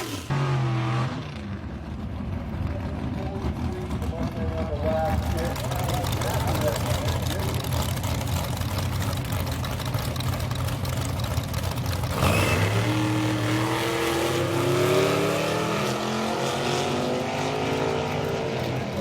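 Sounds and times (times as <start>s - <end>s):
drag racing car engine accelerating: 0.0s - 19.0s.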